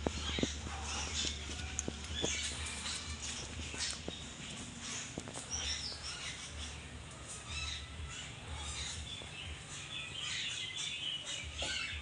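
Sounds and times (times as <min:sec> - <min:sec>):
low pulsing rumble: 0:00.0 - 0:09.8
small birds chirping: 0:00.0 - 0:12.0.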